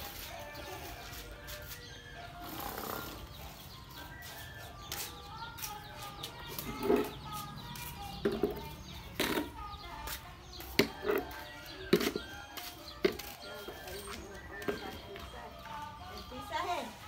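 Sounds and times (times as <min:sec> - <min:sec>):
animals chirping and clucking: 0:00.0 - 0:17.0.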